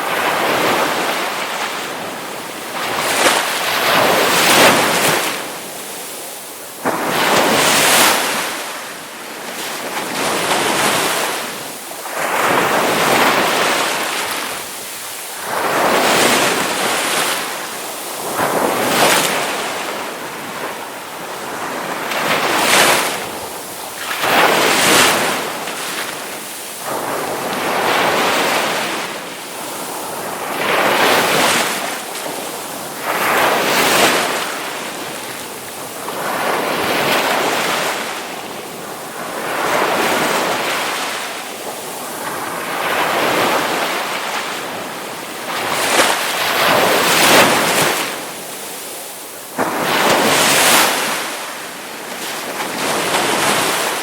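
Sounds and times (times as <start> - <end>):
ocean waves crashing on shore: 0.0 - 54.0.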